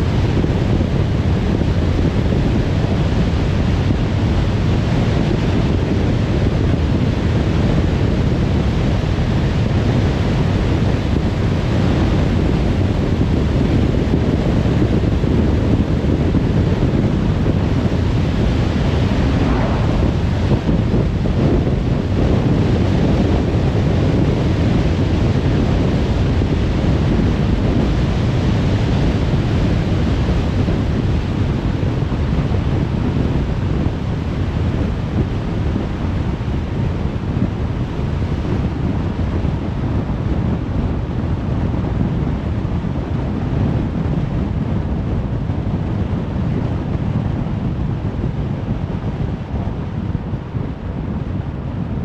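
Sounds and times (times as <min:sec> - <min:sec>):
tyre and wind noise: 0:00.0 - 0:52.0.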